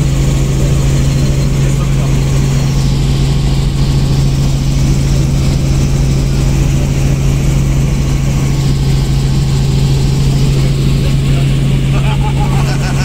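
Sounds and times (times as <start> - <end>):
helicopter engine and rotors: 0.0 - 13.0.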